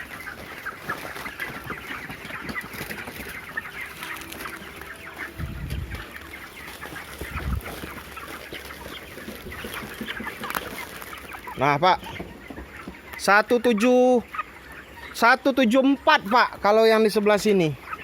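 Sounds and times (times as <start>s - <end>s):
chickens clucking and chirping: 0.0s - 18.0s.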